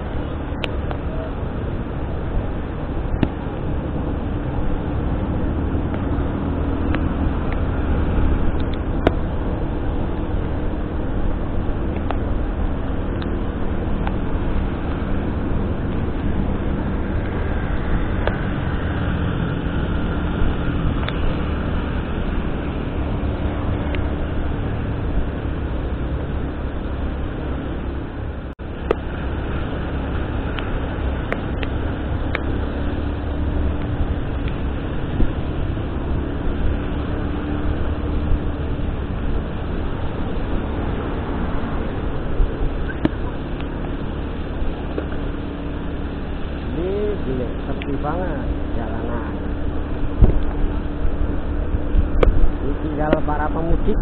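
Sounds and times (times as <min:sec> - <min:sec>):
faint engine hum: 0:00.0 - 0:54.0
heavy rain: 0:00.0 - 0:54.0
vehicle driving on wet road: 0:00.0 - 0:54.0.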